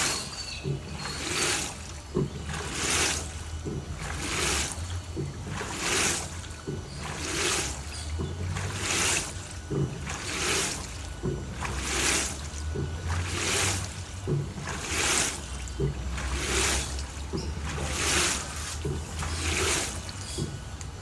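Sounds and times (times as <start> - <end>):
washing machine motor hum: 0.0 - 21.0
water sloshing in washing machine: 0.0 - 21.0.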